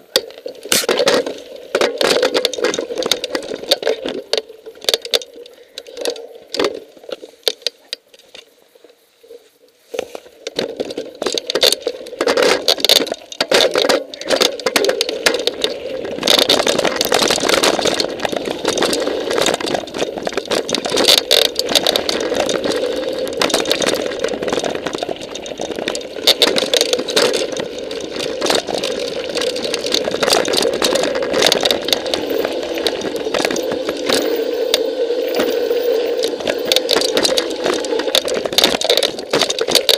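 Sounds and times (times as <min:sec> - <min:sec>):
bike and camera rattling: 0:00.0 - 0:08.5, 0:09.9 - 0:39.9
bike tyres on gravel: 0:00.0 - 0:39.9.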